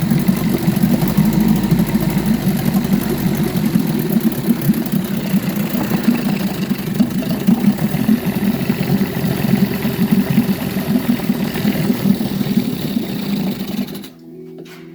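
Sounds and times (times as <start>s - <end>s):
outboard motor idling: 0.0s - 14.2s.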